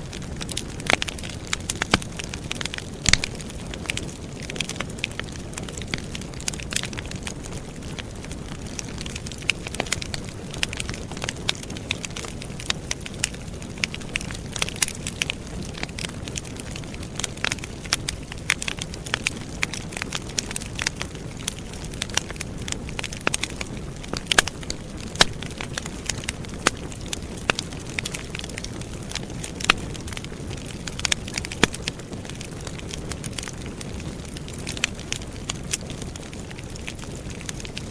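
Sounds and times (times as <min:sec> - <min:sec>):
campfire snaps and pops: 0:00.0 - 0:37.9
low rush of burning flames: 0:00.0 - 0:37.9.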